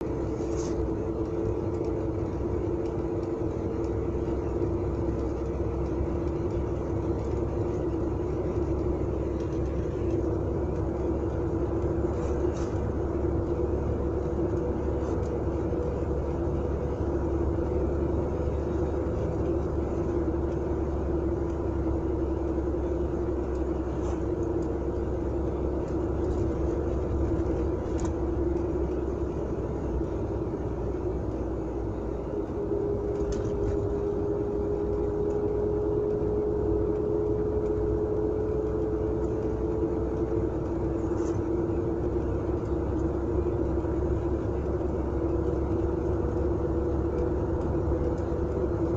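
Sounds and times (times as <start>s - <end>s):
car engine drone: 0.0s - 48.9s
road rumble: 0.0s - 48.9s.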